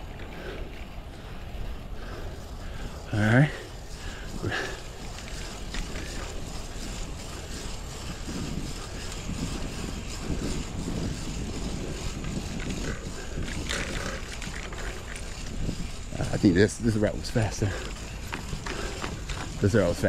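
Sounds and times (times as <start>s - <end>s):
bicycle rolling noise: 0.0s - 20.0s
wind rumbling on microphone: 0.0s - 20.0s.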